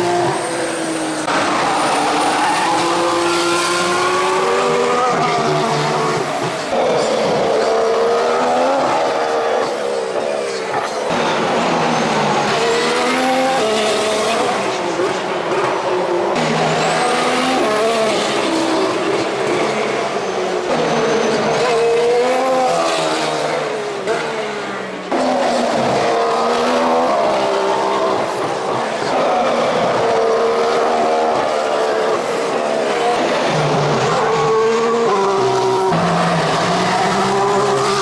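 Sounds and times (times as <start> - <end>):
racing car engines revving: 0.0 - 38.0.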